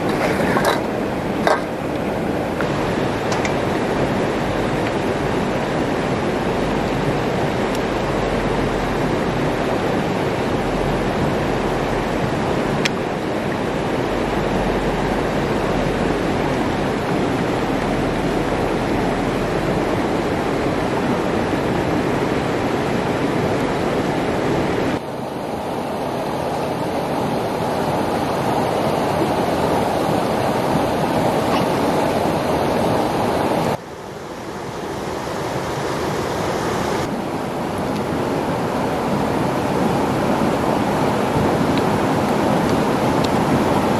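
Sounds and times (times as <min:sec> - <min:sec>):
stream running water: 0:00.0 - 0:43.9.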